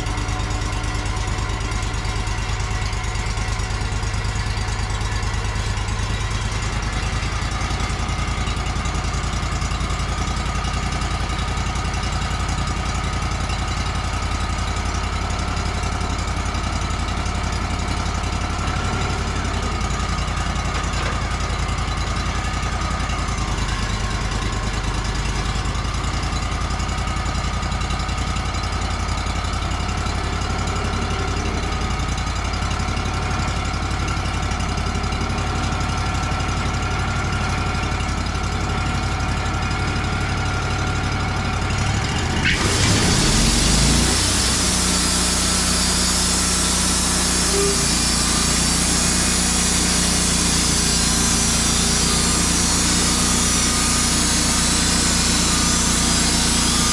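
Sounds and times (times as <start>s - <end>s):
sawmill engine running: 0.0s - 56.9s.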